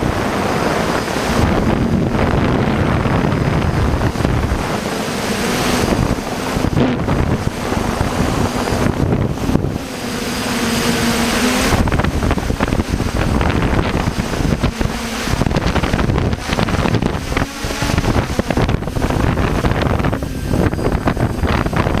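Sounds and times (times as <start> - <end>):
faint motor hum: 0.0 - 22.0
wind buffeting microphone: 0.0 - 22.0.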